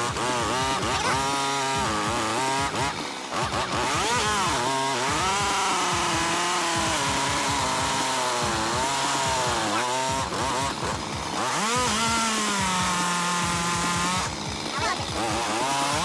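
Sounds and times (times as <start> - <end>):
chainsaw cutting through log: 0.0 - 16.0.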